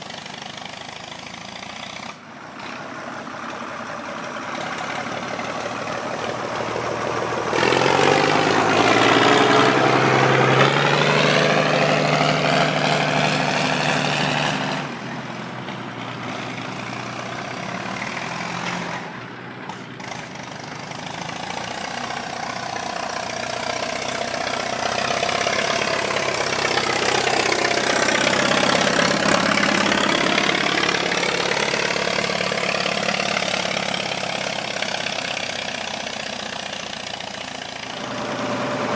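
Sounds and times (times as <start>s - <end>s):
diesel tractors driving past: 0.0s - 38.9s.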